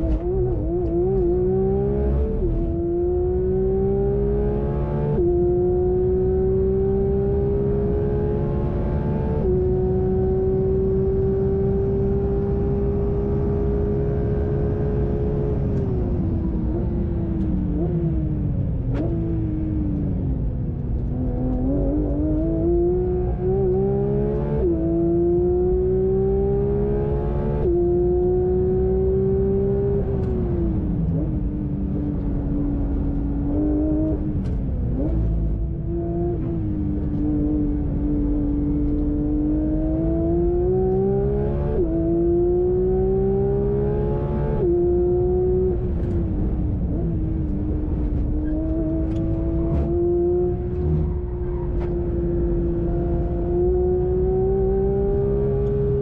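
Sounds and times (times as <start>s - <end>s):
car engine revving and shifting: 0.0s - 56.0s.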